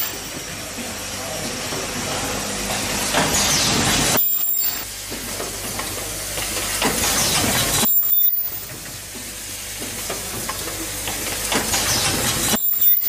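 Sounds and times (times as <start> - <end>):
welding machine hissing: 0.0 - 13.0.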